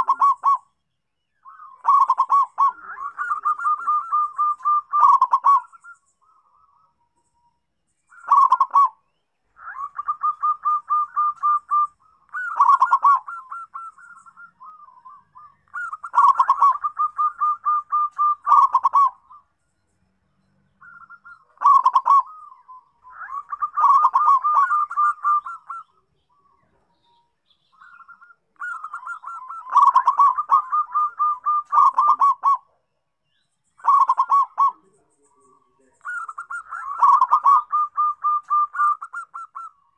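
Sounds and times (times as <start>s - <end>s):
dove cooing: 0.0s - 0.7s, 1.4s - 6.9s, 8.1s - 9.0s, 9.6s - 19.5s, 20.8s - 32.9s, 33.8s - 39.9s.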